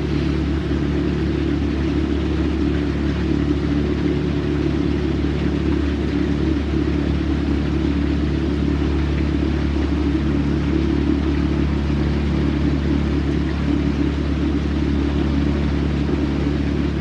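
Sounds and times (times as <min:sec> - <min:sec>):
outboard motor droning: 0:00.0 - 0:17.0
water and hull noise: 0:00.0 - 0:17.0.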